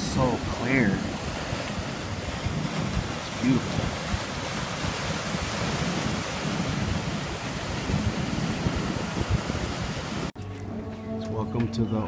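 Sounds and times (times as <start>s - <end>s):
sea surf washing in: 0.0s - 10.4s
wind buffeting microphone: 0.0s - 10.4s.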